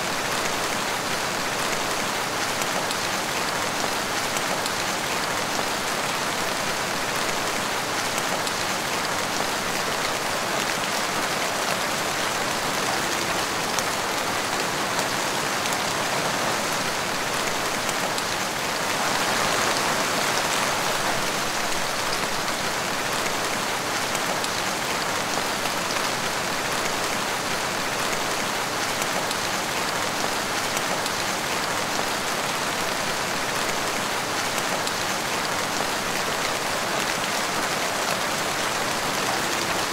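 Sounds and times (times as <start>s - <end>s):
rain splashing on tiled floor: 0.0s - 39.9s.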